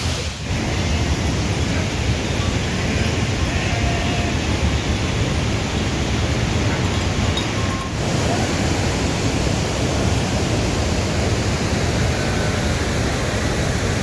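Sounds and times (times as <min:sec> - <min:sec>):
heavy rain rushing: 0:00.0 - 0:14.0.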